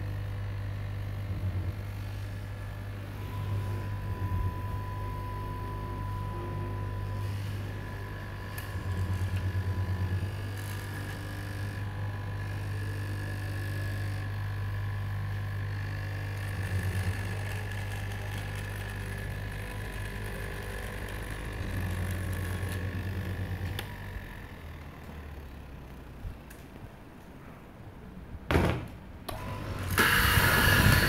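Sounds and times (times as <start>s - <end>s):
cloth cutting machine humming: 0.0s - 27.0s, 28.6s - 31.0s.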